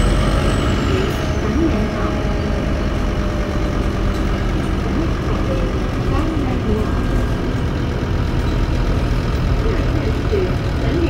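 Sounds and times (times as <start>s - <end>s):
diesel bus engine drone: 0.0s - 11.0s.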